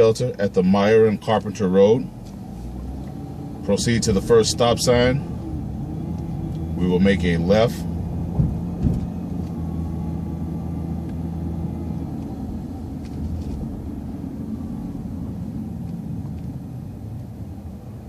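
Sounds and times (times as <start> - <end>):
bus engine rumble: 0.0 - 18.0
road rumble: 0.0 - 18.0.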